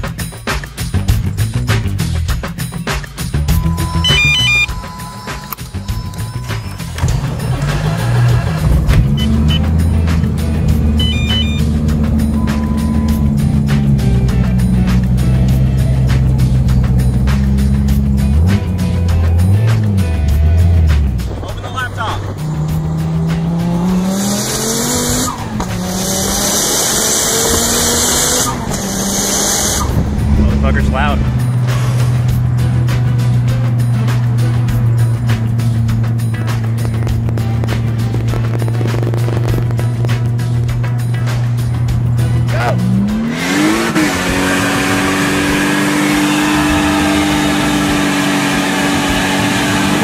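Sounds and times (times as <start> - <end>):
wind and road noise: 3.4 - 50.0
car engine accelerating hard: 3.5 - 50.0.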